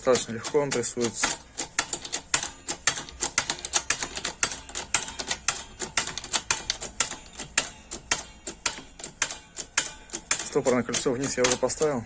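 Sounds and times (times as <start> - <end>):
rapid metallic clicking: 0.0 - 12.0.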